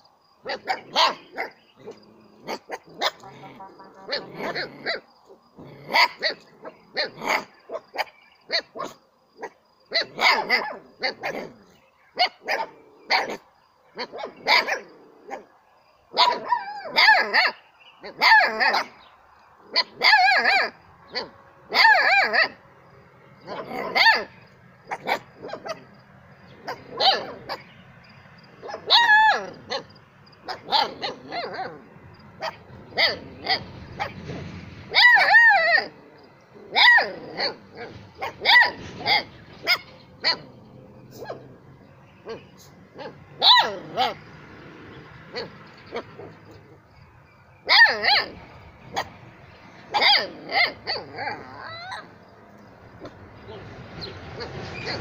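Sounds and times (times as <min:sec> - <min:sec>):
puppies barking in high yaps: 0:00.0 - 0:01.6, 0:02.4 - 0:05.1, 0:05.8 - 0:15.5, 0:16.1 - 0:19.0, 0:19.7 - 0:22.7, 0:23.4 - 0:27.8, 0:28.5 - 0:36.0, 0:36.7 - 0:46.9, 0:47.6 - 0:52.2, 0:52.9 - 0:55.0.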